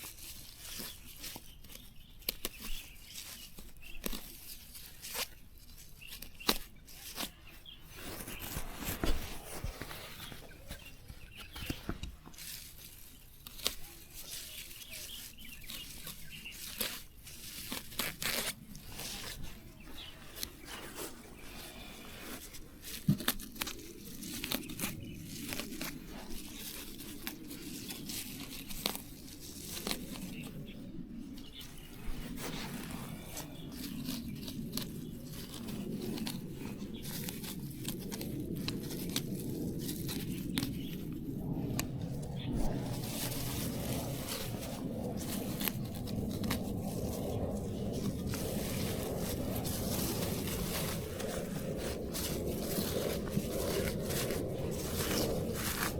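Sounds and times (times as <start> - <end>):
plant material tearing and snapping: 0.0 - 55.9.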